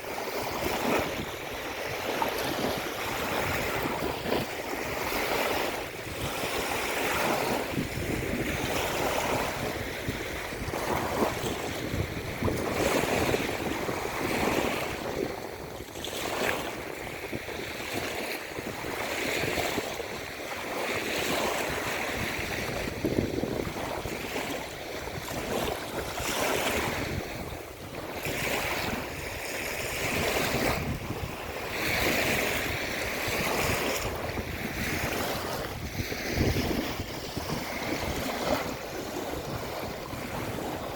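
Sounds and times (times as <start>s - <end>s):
waves breaking on shore: 0.0s - 40.9s
wind buffeting microphone: 0.0s - 40.9s.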